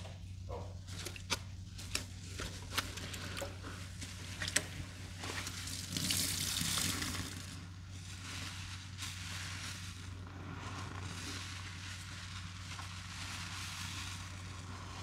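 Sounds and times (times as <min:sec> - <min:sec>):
wet sponge squelching: 0:00.5 - 0:15.0.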